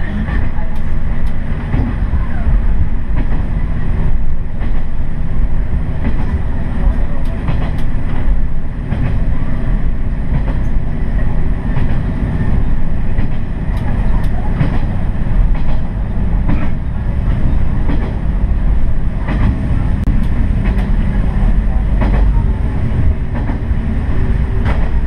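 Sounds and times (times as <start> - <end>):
rail-joint clicks: 0.0 - 25.0
train engine and wheel rumble: 0.0 - 25.0.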